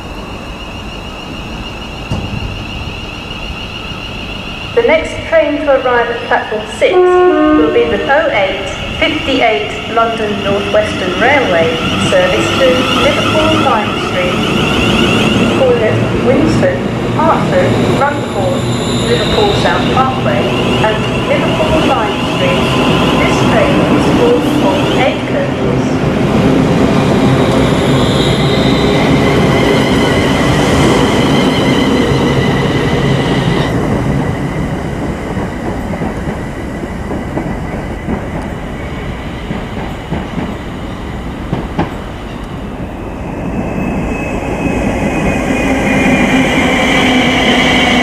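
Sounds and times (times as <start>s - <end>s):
train wheels rumbling and clattering: 1.5s - 3.2s, 8.0s - 48.0s.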